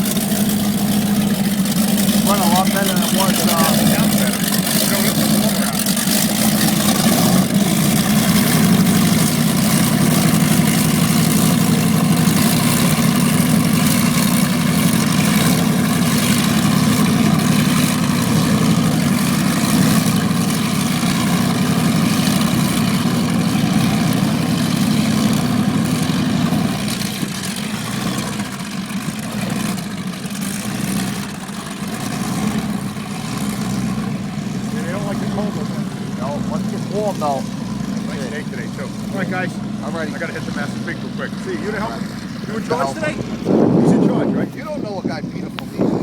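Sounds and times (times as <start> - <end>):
powerboat engine running: 0.0 - 46.0.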